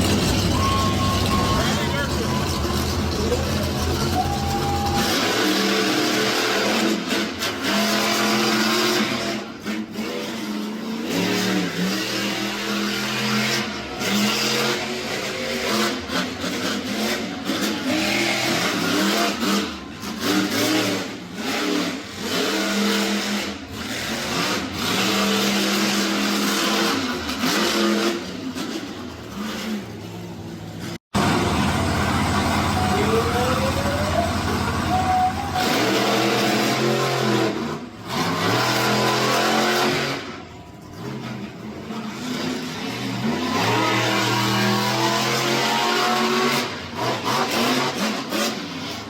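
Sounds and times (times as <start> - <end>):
truck engine revving: 0.0 - 49.0.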